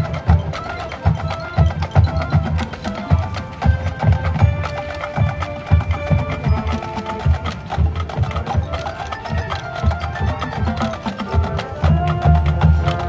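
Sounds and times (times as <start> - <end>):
mallet percussion notes: 0.0 - 13.0
sharp clicking drum strokes: 0.0 - 13.0.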